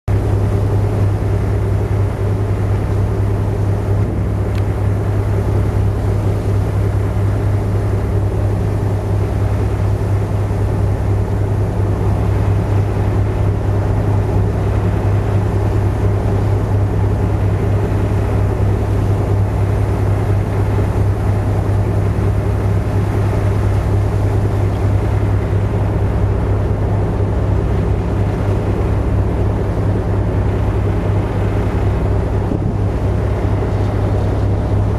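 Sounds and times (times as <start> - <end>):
ferry engines droning: 0.1 - 34.9.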